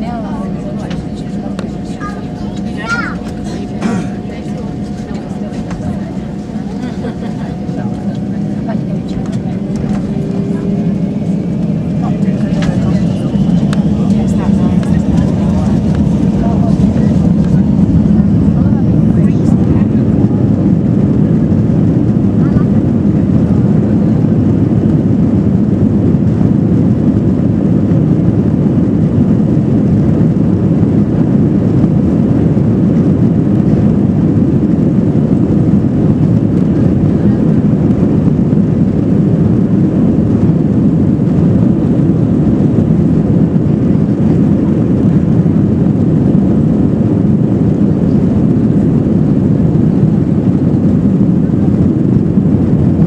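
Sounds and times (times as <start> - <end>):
jet cabin low rumble: 0.0 - 53.0.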